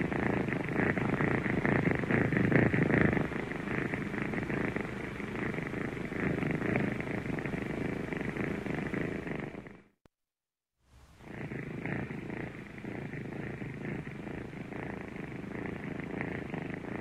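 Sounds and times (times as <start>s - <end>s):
kitten purring: 0.0s - 10.1s, 11.1s - 17.0s.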